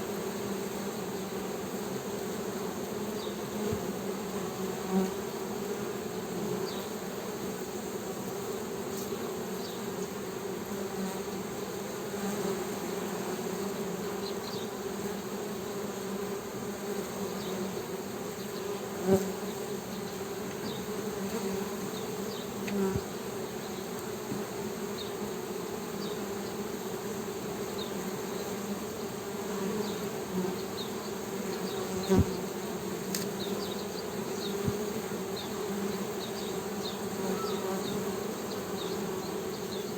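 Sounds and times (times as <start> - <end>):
honey bees humming: 0.0 - 39.9.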